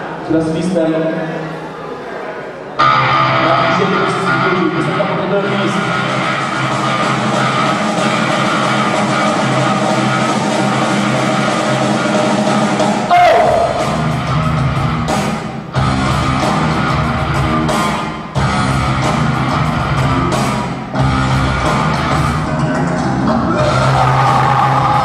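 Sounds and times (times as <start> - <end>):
live rock band playing: 2.8 - 25.0.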